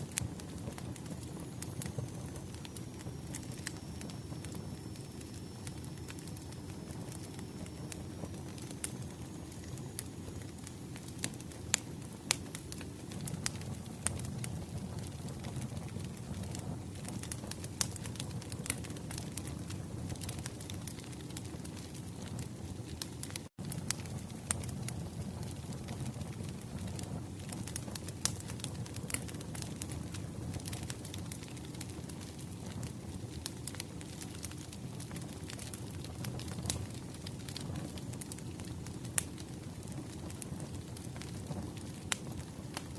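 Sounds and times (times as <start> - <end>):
low rumble of burning logs: 0.0 - 42.9
wood fire crackling and popping: 0.0 - 42.9.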